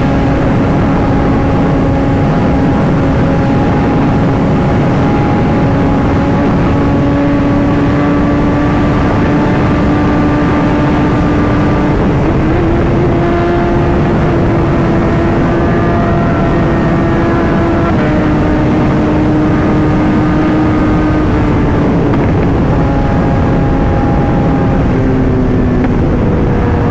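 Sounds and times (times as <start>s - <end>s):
motorcycle engine running: 0.0s - 26.9s
wind and road noise: 0.0s - 26.9s.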